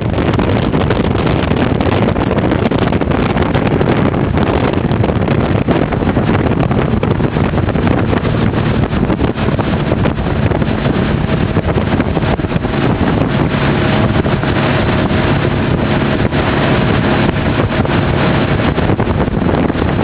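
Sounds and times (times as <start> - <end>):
boat engine running: 0.0 - 20.0
wind buffeting microphone: 0.0 - 20.0.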